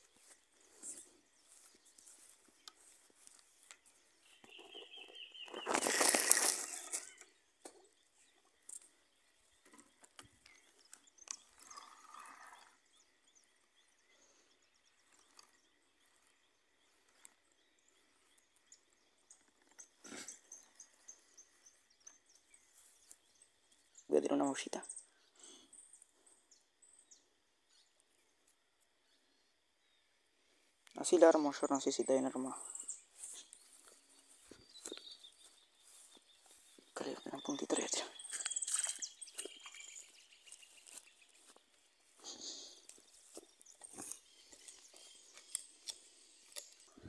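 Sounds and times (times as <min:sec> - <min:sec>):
faint bird chirps: 0:00.0 - 0:47.0.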